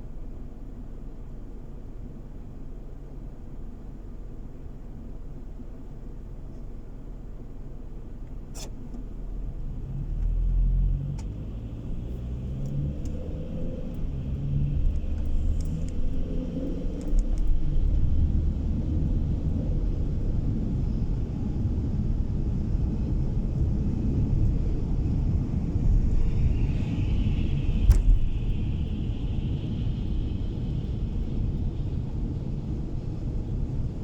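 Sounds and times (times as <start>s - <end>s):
car engine rumble: 0.0s - 34.0s
road noise: 5.8s - 34.0s.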